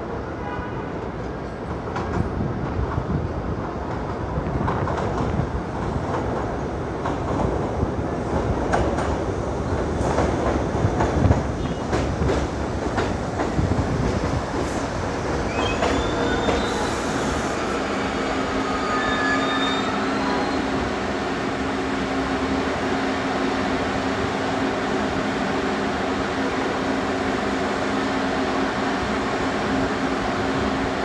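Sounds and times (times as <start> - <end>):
subway train rolling by: 0.0 - 31.0.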